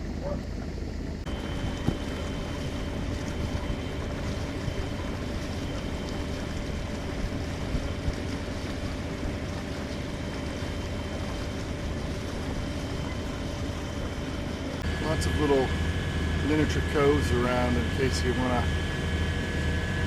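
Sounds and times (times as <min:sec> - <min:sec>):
boat motor droning: 0:00.0 - 0:20.0.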